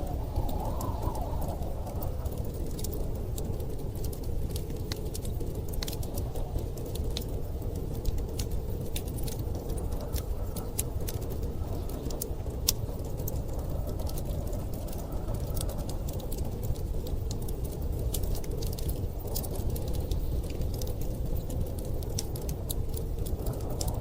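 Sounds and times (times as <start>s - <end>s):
fire popping: 0.0s - 24.0s
storm wind rumbling: 0.0s - 24.0s
wood fire crackling: 0.0s - 24.0s.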